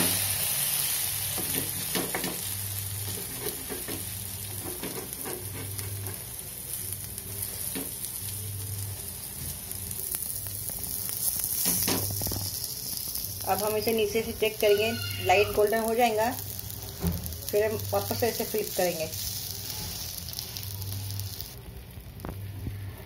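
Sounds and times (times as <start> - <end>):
flatbread sizzling on a griddle: 0.0 - 23.0.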